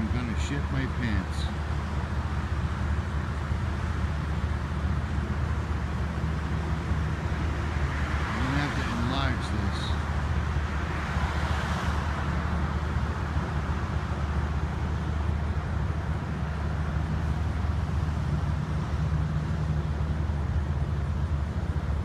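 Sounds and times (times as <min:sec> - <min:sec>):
idling engines rumble: 0:00.0 - 0:22.0
traffic hiss: 0:00.0 - 0:22.0.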